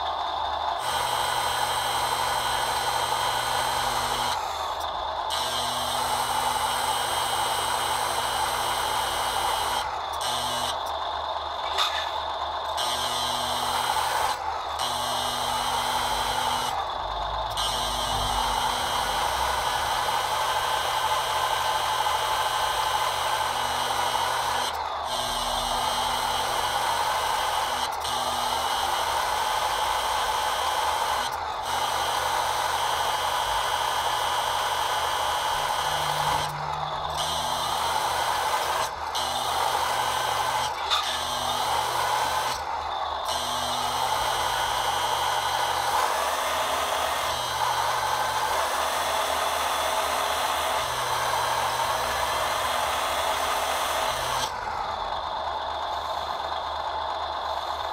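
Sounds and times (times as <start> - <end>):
electric hydraulic pump whining: 0.0 - 57.9.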